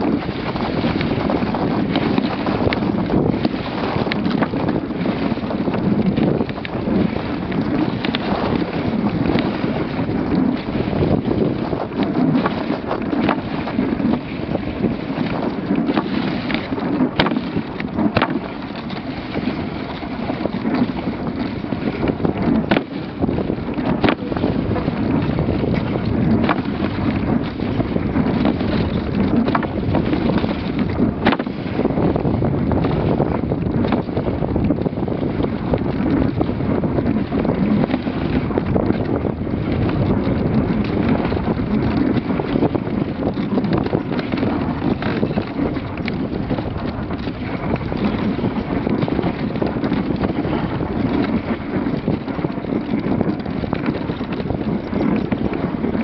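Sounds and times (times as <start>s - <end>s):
sled clicks and knocks: 0.0s - 56.0s
wind on microphone: 0.0s - 56.0s.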